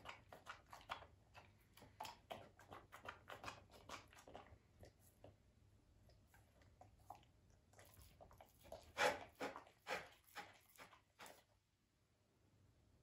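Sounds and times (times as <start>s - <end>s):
puppy licking a plate: 0.0s - 11.6s.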